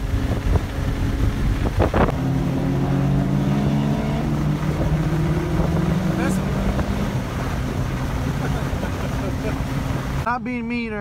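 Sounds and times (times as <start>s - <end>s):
car engine droning: 0.0s - 10.3s
wind buffeting microphone: 0.0s - 10.3s
road rumble: 0.0s - 11.0s.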